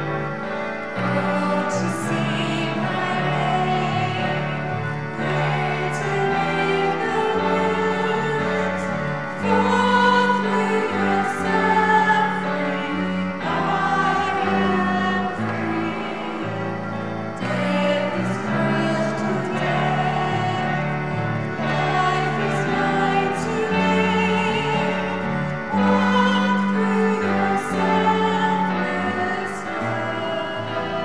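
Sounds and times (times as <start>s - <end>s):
choir singing sustained chords: 0.0s - 31.0s.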